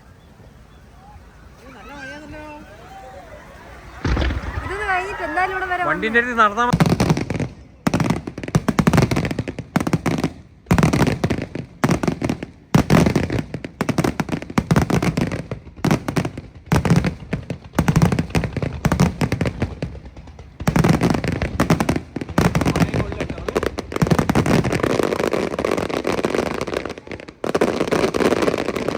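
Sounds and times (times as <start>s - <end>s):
fireworks bangs and crackling: 1.0s - 28.9s.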